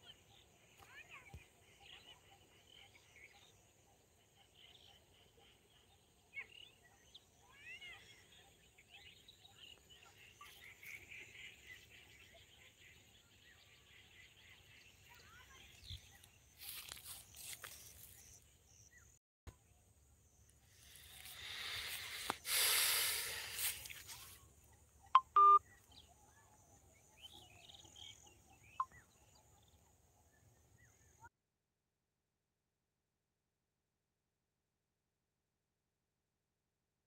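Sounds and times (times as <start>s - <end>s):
small birds chirping: 0.0s - 31.3s.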